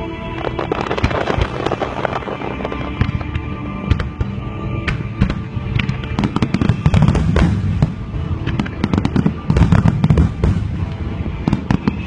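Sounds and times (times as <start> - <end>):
fireworks booming and crackling: 0.3 - 12.0.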